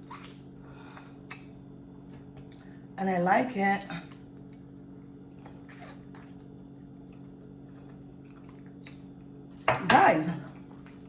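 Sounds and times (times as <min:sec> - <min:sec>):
person chewing food: 0:00.0 - 0:03.0, 0:04.0 - 0:09.6, 0:10.5 - 0:11.0
low electrical hum: 0:00.0 - 0:11.0.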